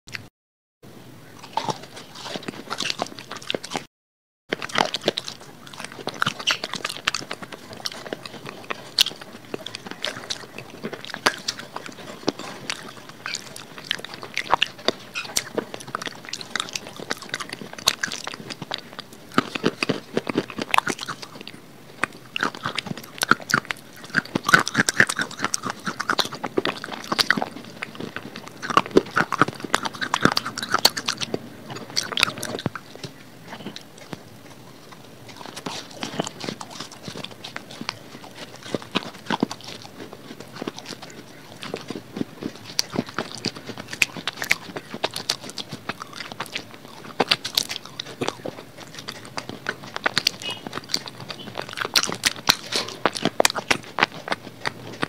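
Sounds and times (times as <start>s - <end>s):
crunching and chewing clay: 1.2s - 3.9s, 4.5s - 55.0s.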